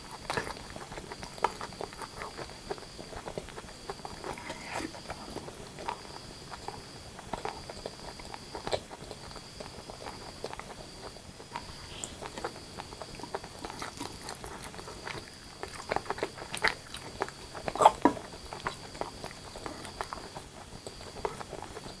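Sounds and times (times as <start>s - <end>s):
chewing and wet mouth clicks: 0.2s - 21.9s.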